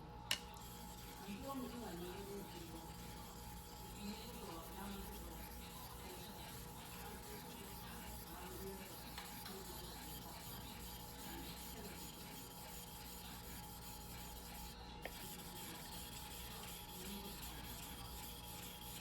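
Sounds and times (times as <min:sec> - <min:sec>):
knife scraping on whetstone: 0:01.0 - 0:19.0.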